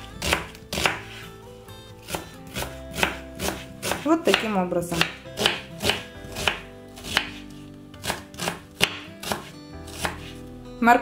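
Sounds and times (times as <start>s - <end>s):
knife chopping on wooden board: 0.2s - 1.2s, 2.0s - 10.4s.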